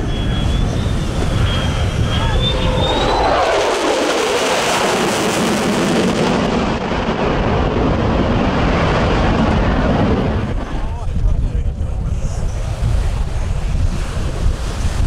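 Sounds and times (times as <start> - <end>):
jet engine rumble overhead: 0.0 - 15.0.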